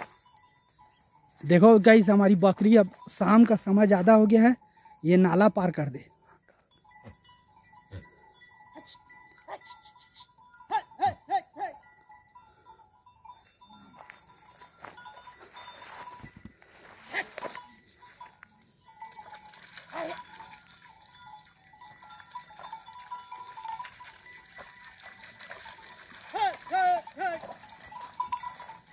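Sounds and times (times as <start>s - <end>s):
small bells tinkling: 0.0s - 28.9s.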